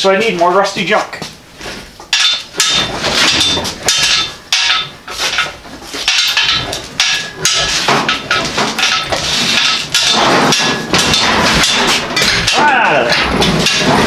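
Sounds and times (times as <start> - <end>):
engine hoist clanking and creaking: 2.0 - 14.0.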